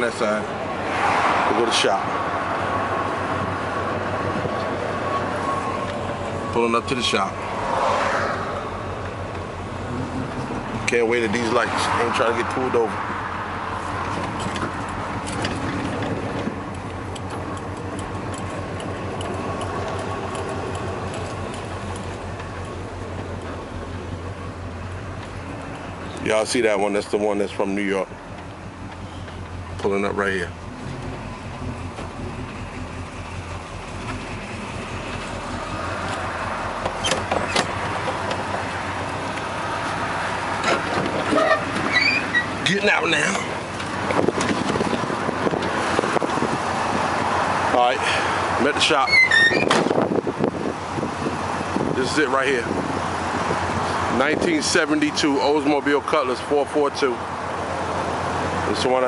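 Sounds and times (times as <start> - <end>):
car engine running: 8.6 - 58.9.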